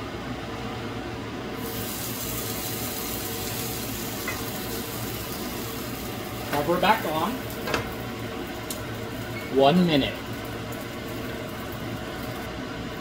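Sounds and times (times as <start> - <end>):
dough sizzling on a hot pan: 1.6 - 13.0.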